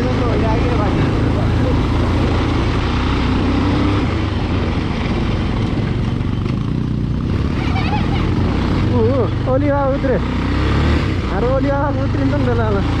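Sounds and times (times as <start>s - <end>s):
motorcycle engine running: 0.0s - 13.0s
road noise: 0.0s - 13.0s.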